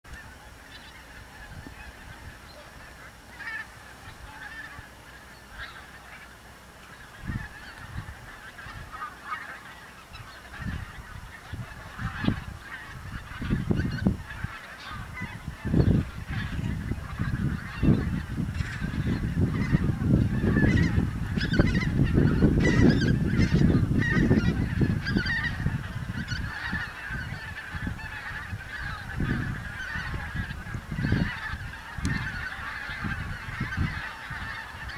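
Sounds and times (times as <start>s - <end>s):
geese honking: 0.1s - 34.9s.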